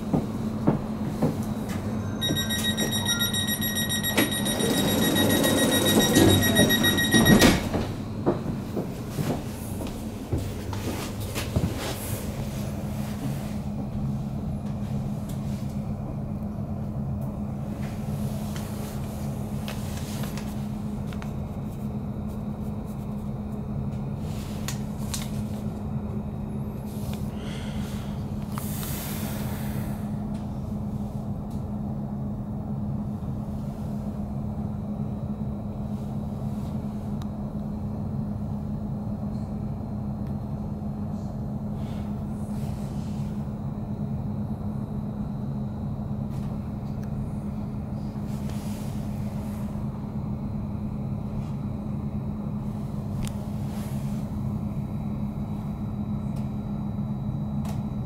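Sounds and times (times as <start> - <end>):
train equipment humming: 0.0 - 58.0.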